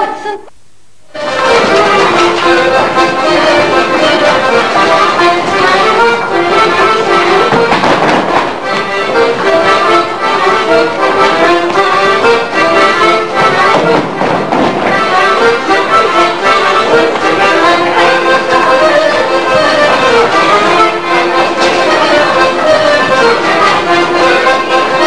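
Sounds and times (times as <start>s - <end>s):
accordion playing folk dance tune: 1.1s - 25.0s.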